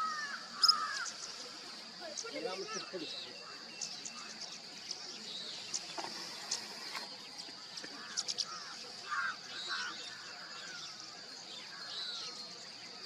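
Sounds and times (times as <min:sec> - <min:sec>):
high insect drone: 0:00.0 - 0:13.0
low arching bird calls: 0:00.0 - 0:13.0.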